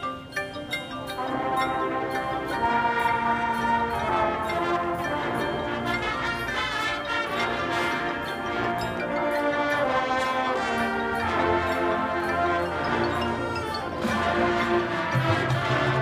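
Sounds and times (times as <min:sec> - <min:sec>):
concert band playing: 0:00.0 - 0:16.0
brass holding chords: 0:01.2 - 0:16.0.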